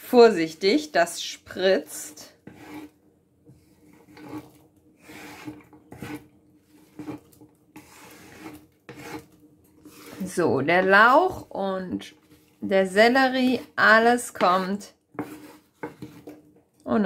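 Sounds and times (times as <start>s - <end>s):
wooden spoon scraping cutting board: 0.4s - 16.5s.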